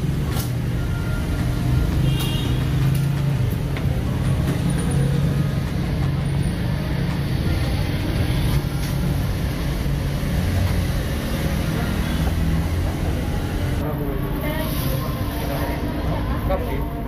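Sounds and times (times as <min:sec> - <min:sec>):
low rumble of street traffic: 0:00.0 - 0:17.0.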